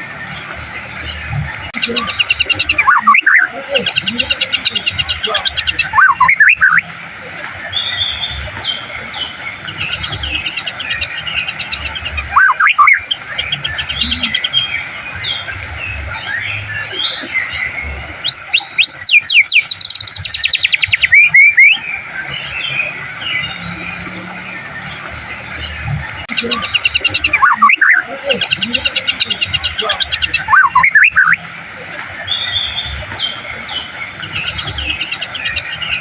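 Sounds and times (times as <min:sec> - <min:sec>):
bird whistles and trills: 0:00.0 - 0:36.0.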